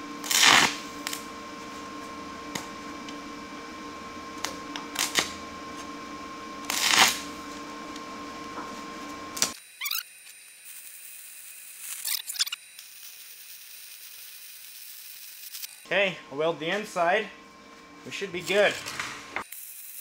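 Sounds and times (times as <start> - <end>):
welding arc crackling: 0.0 - 16.0, 18.0 - 20.0
steady welder hum: 0.0 - 20.0.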